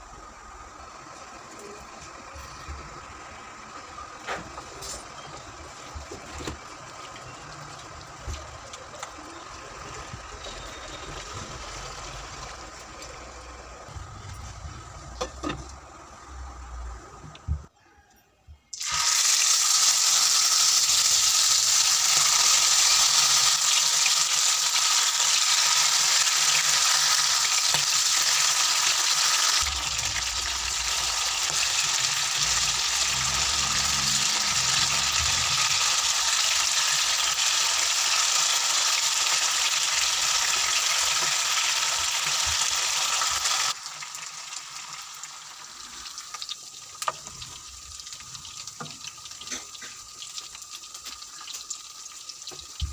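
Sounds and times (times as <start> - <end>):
chicken sizzling in hot oil: 0.0 - 16.5, 18.7 - 52.9.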